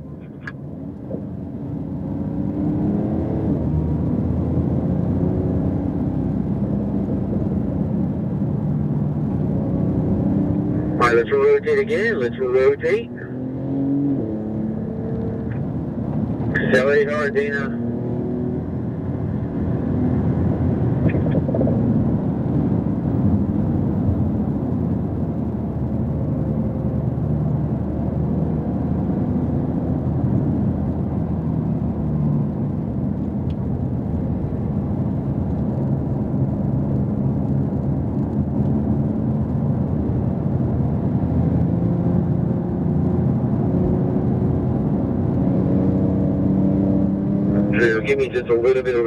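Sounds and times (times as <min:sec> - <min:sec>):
car engine rumble from inside cabin: 0:00.0 - 0:49.0.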